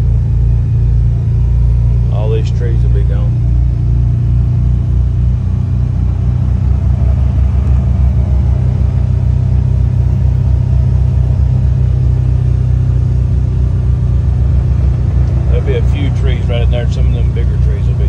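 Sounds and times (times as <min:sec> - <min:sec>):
low engine drone: 0:00.0 - 0:18.0
road noise: 0:00.0 - 0:18.0.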